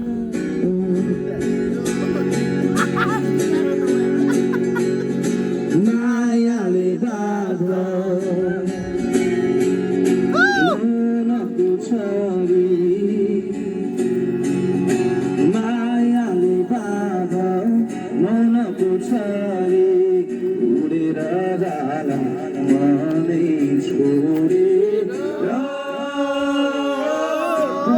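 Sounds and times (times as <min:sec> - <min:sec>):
guitar accompaniment: 0:00.0 - 0:27.9
man singing: 0:00.0 - 0:27.9.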